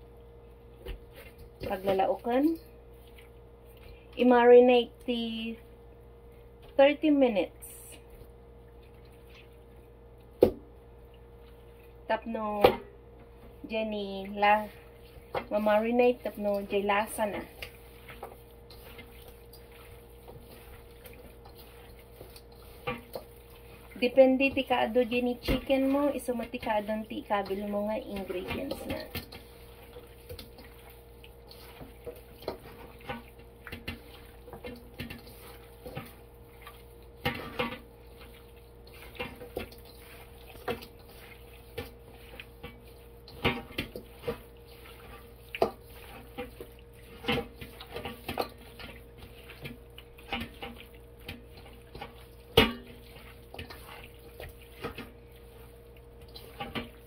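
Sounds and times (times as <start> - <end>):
faint steady hum: 0.0 - 57.0
wet hands mixing meat: 0.0 - 57.0.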